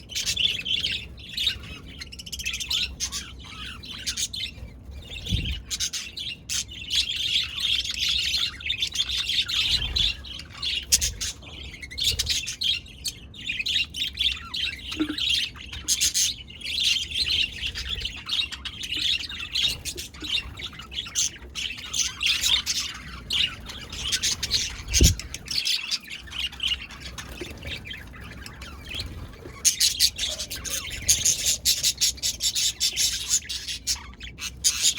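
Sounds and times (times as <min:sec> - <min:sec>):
budgies chirping and warbling: 0:00.0 - 0:34.9.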